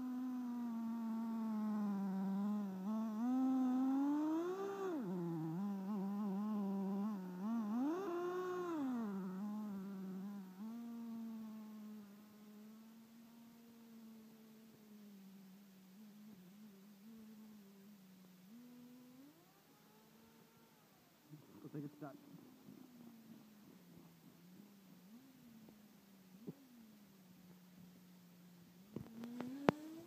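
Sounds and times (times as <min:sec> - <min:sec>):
small nitro engine buzzing: 0:00.0 - 0:30.0.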